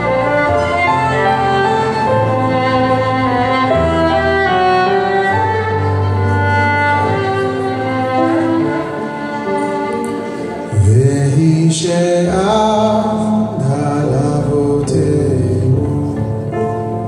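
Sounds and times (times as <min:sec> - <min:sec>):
keyboard: 0:00.0 - 0:17.0
violin melody: 0:00.0 - 0:17.0.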